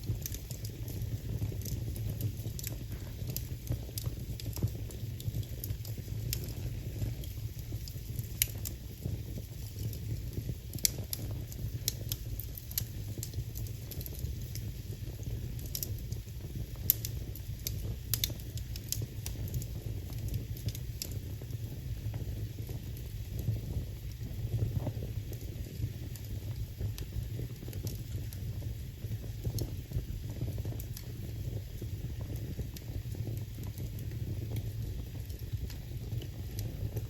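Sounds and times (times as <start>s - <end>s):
fire snapping: 0.0s - 37.0s
wood fire crackling: 0.0s - 37.0s.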